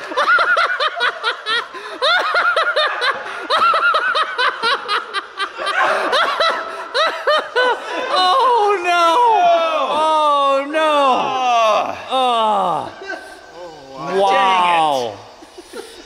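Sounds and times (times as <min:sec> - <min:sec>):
men laughing: 0:00.0 - 0:16.0.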